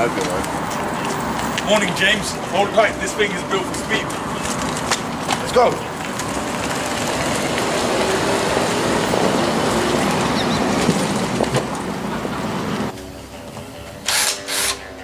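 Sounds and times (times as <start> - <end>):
golf cart rumbling: 0.0 - 14.0.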